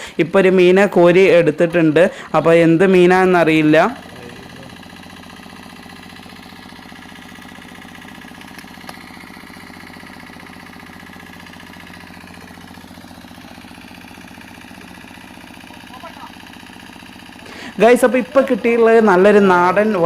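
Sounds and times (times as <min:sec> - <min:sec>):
water pump humming: 0:00.0 - 0:20.0.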